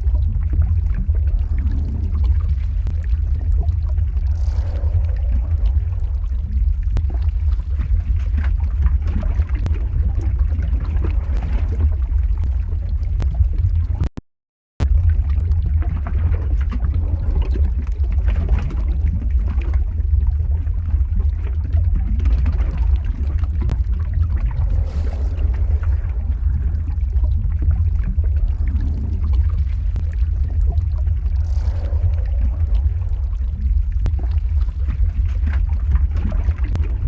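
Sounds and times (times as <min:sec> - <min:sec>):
deep rumble: 0:00.0 - 0:14.1, 0:14.8 - 0:37.0
lava bubbling and gurgling: 0:00.0 - 0:14.1, 0:14.8 - 0:37.0.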